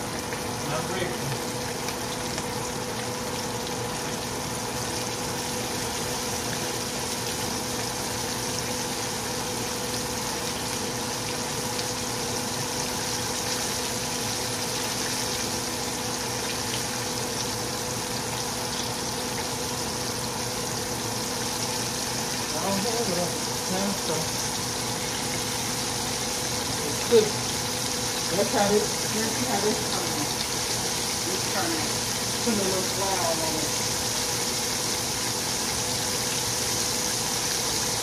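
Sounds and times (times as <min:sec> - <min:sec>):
pork chops sizzling in oil: 0:00.0 - 0:38.0.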